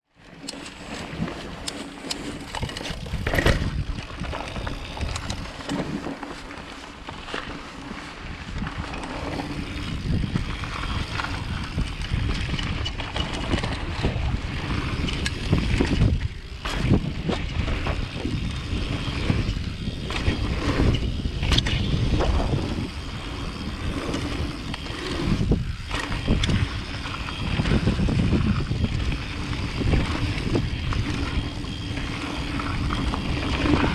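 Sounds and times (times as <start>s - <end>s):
bike rattling: 0.1s - 33.9s
bike tyres rushing over dirt: 0.2s - 33.9s.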